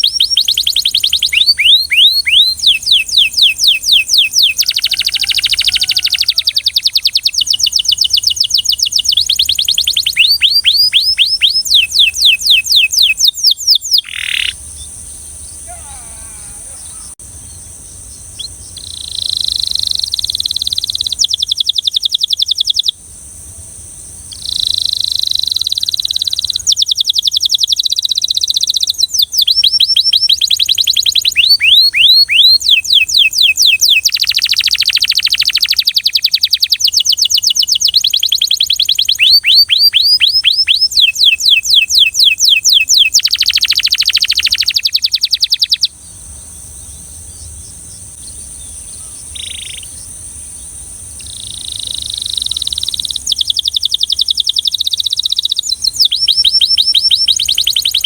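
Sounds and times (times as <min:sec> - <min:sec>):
canary singing: 0:00.0 - 0:23.0, 0:24.3 - 0:46.0, 0:46.8 - 0:50.1, 0:51.1 - 0:58.0.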